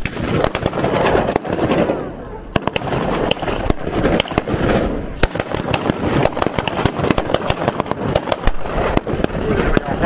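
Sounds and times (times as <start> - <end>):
distant gunfire popping: 0.0 - 10.0
rapid gunfire shots: 0.0 - 10.0.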